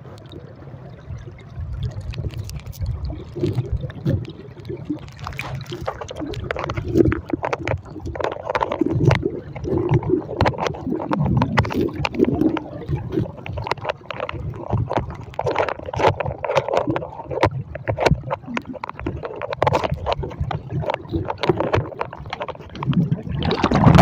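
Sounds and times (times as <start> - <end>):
muffled underwater river rushing: 0.0 - 24.0
small sharp clicks and knocks: 2.0 - 24.0.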